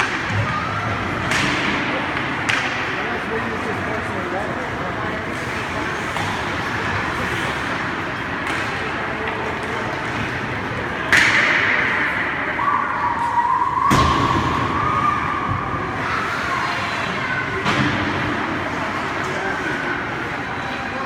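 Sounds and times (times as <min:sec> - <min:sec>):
skating and spectators: 0:00.0 - 0:21.0.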